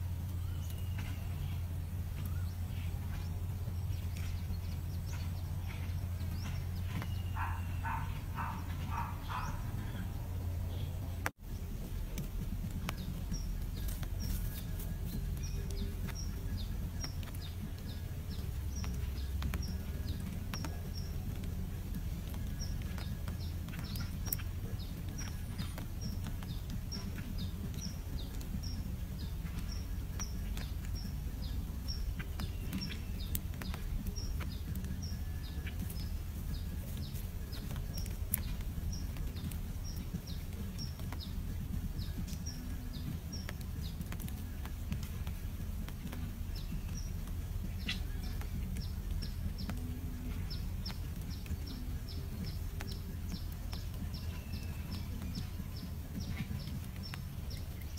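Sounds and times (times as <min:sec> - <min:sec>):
steady low rumble: 0:00.0 - 0:57.9
small bird chirping: 0:00.2 - 0:57.9.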